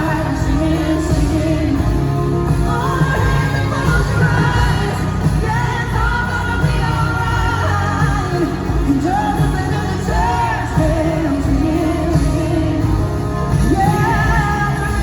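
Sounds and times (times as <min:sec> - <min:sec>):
loud full band playing: 0:00.0 - 0:15.0
woman singing lead: 0:00.0 - 0:15.0.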